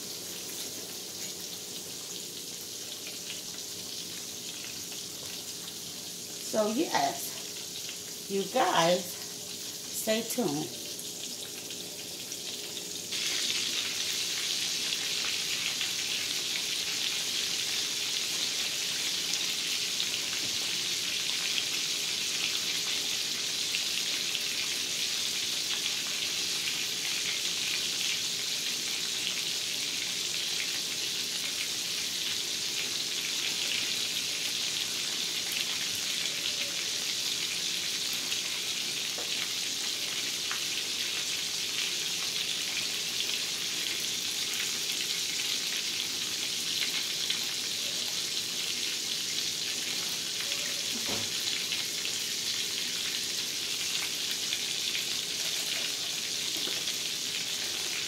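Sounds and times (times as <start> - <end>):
meat sizzling in hot oil: 0.0 - 58.0.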